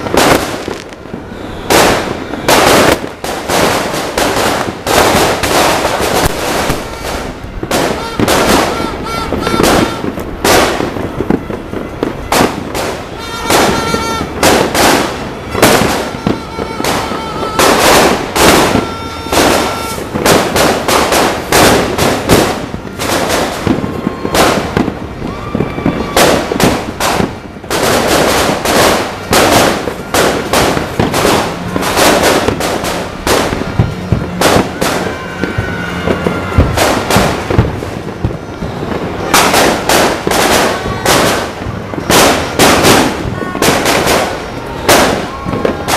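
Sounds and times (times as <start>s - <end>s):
fireworks and firecrackers banging: 0.0s - 45.9s.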